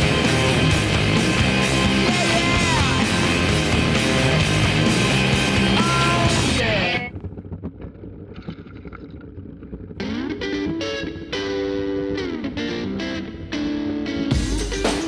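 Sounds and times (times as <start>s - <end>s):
distorted electric guitar rock: 0.0s - 15.0s.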